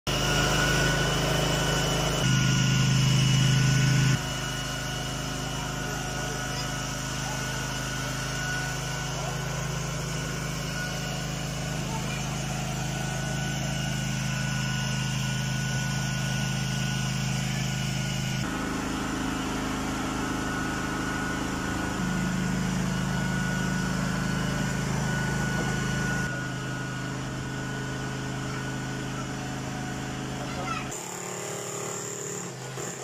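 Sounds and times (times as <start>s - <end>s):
demolition hammer chiselling concrete: 0.1s - 33.0s.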